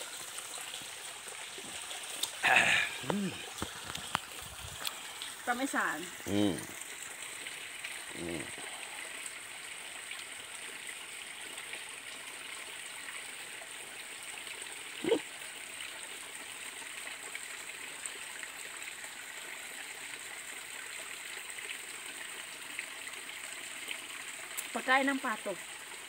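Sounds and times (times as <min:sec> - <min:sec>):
creek running over rocks: 0:00.0 - 0:26.0.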